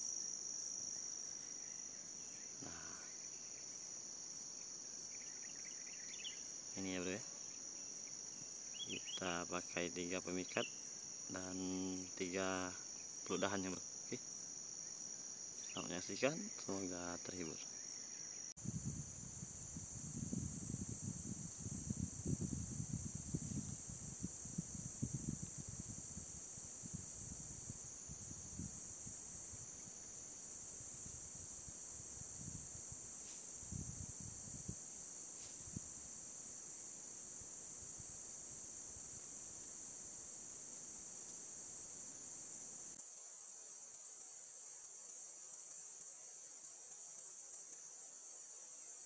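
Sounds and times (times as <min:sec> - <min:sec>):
crickets droning: 0:00.0 - 0:49.0.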